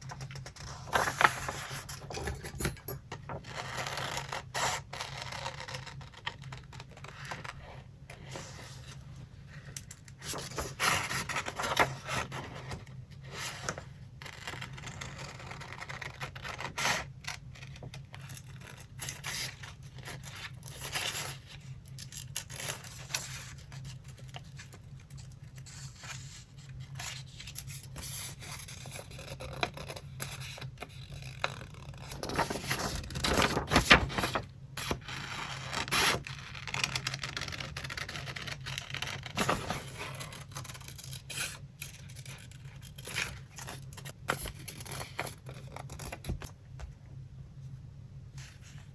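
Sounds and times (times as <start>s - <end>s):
paper rustling and scraping: 0.4s - 5.8s, 7.2s - 21.6s, 22.3s - 46.5s.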